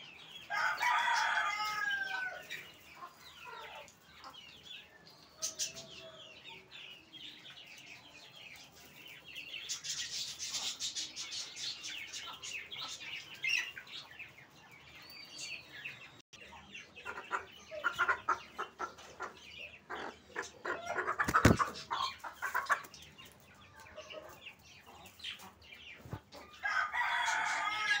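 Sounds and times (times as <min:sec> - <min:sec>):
chickens clucking: 0:00.0 - 0:28.0
chicks peeping: 0:00.0 - 0:28.0.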